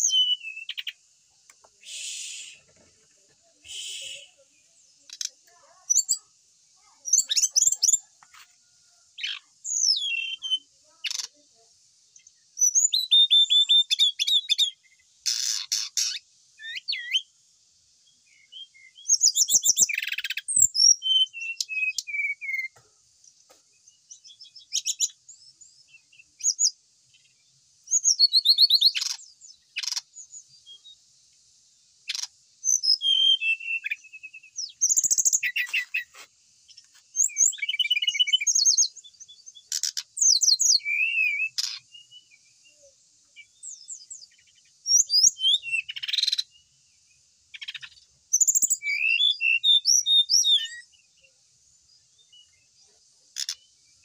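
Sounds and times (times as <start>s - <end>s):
bird singing chirps and trills: 0.0s - 54.0s.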